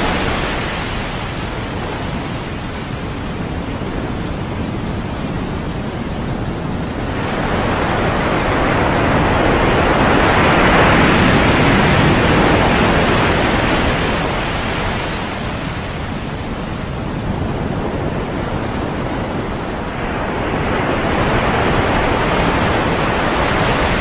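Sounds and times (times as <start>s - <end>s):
sea waves washing in: 0.0s - 24.0s.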